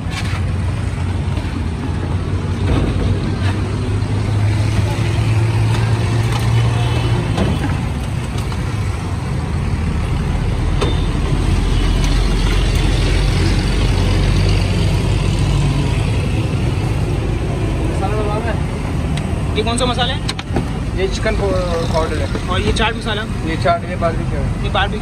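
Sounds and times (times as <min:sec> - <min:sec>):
busy road traffic hum: 0:00.0 - 0:25.0.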